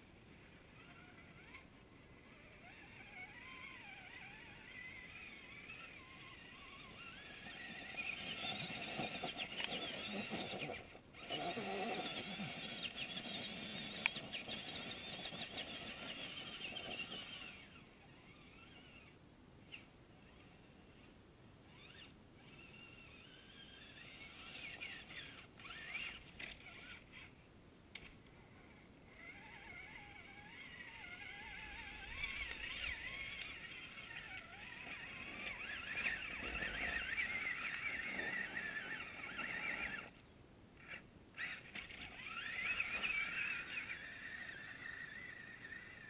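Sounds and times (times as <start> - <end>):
electric motor whining: 0.5 - 20.7, 21.6 - 27.4, 28.0 - 40.2, 40.8 - 46.0.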